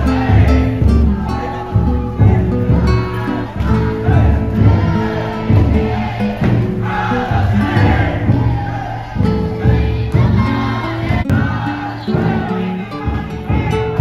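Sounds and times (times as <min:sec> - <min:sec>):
voices singing: 0:00.0 - 0:14.0.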